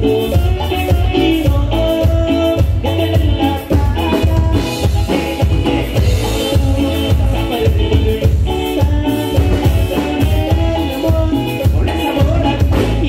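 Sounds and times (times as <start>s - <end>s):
band music with bass and drums: 0.0s - 13.0s.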